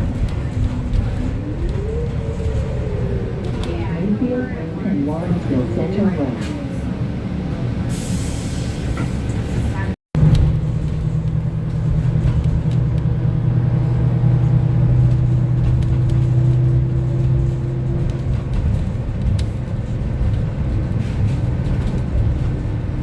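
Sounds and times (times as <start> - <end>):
tyre and road rumble: 0.0 - 7.9, 8.8 - 23.0
bus engine droning: 0.0 - 23.0.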